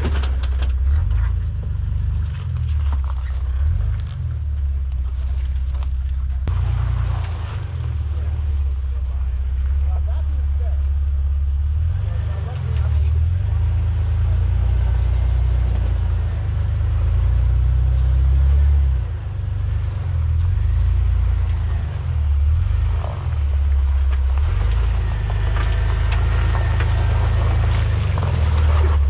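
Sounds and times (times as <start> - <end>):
engine running at low revs: 0.0 - 29.0.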